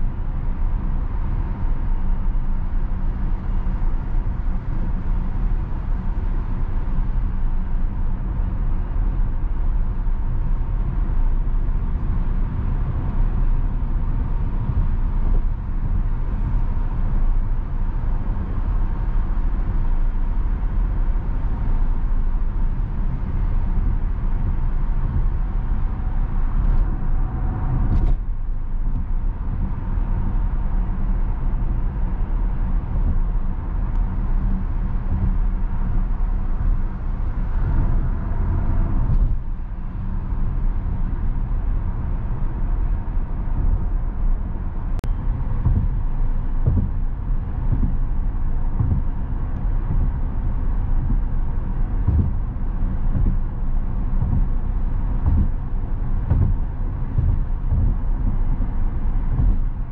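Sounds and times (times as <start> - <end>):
tyre and road noise: 3.4 - 59.9.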